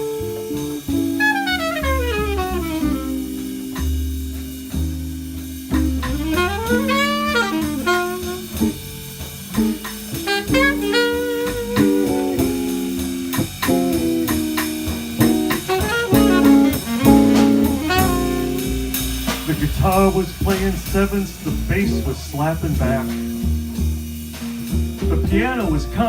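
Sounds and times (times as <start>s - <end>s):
chords: 0.0s - 26.0s
jazz drums: 0.0s - 26.0s
jazz lead melody: 0.0s - 26.0s
walking bass: 0.0s - 26.0s.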